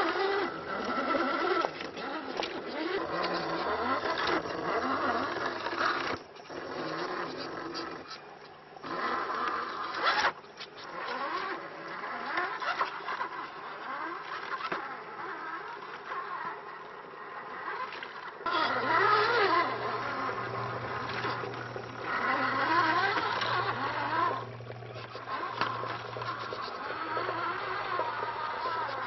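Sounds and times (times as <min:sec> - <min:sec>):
steady low hum: 0:00.0 - 0:14.2, 0:14.9 - 0:29.0
toy car electric motor whining: 0:00.0 - 0:29.0.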